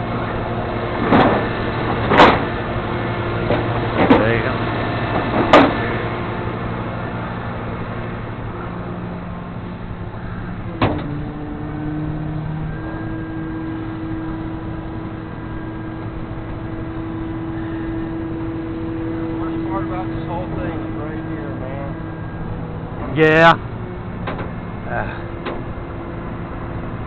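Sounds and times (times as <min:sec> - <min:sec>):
steady hum: 0:00.0 - 0:27.0
vehicle engine idling: 0:00.0 - 0:27.0.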